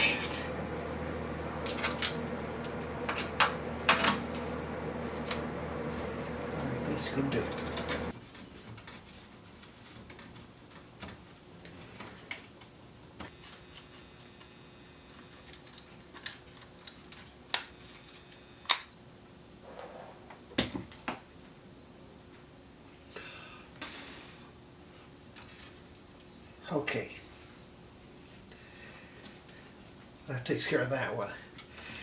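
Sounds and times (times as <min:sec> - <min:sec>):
faint steady hum: 0:00.0 - 0:08.5, 0:10.2 - 0:32.0.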